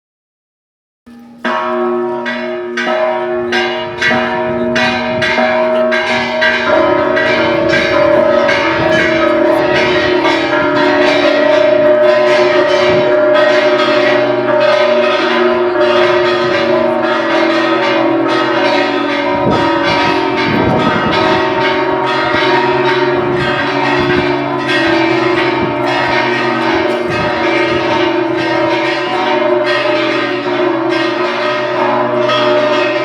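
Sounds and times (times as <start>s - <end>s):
church bells ringing a peal: 1.1s - 33.0s.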